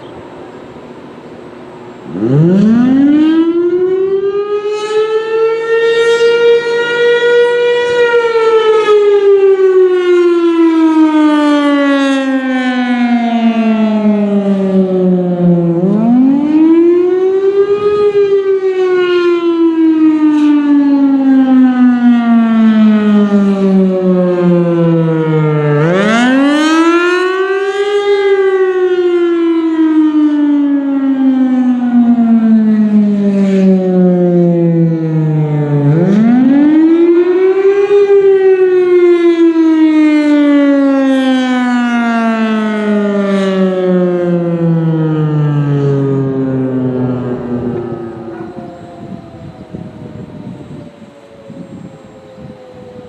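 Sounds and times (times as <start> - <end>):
warning siren wailing: 0.0 - 53.0.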